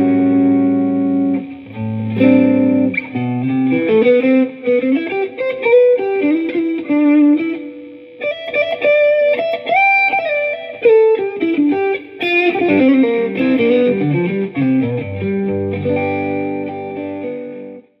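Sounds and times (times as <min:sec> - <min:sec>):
electric guitar melody: 0:00.0 - 0:18.0.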